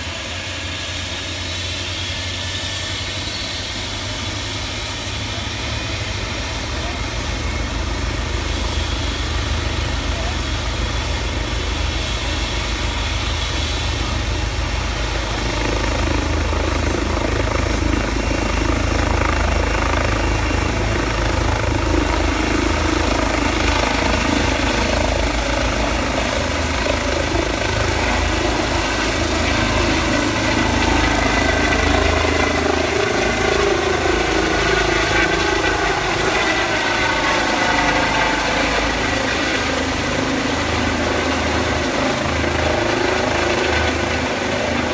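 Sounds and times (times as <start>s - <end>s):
helicopter rotor and turbines: 0.0s - 44.9s
high turbine whine: 0.0s - 44.9s.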